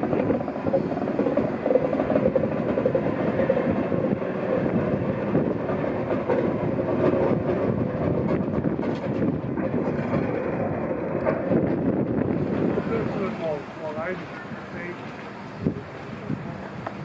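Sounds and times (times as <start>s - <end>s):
diesel locomotive running: 0.0s - 17.0s.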